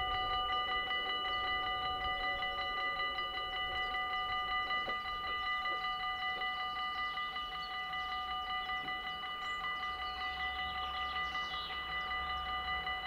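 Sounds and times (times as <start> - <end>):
birds chirping: 0.0 - 13.0
level-crossing bell ringing rapidly: 0.0 - 13.0.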